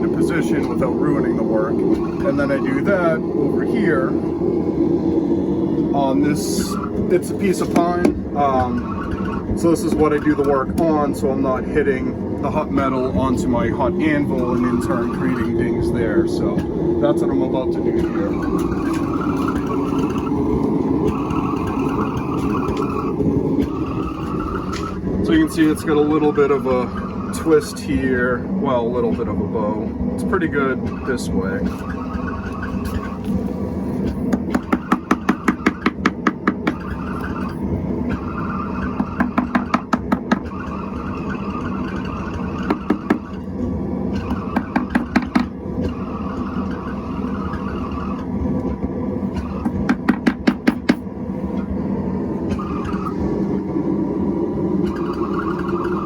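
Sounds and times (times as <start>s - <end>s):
forge burner roaring: 0.0s - 56.0s
whirring background noise: 0.0s - 56.0s.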